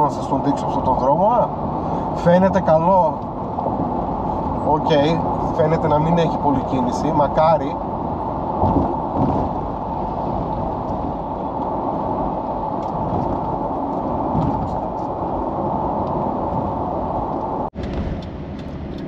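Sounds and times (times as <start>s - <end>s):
car engine: 0.0s - 19.0s
tyre noise on the road: 0.0s - 19.0s.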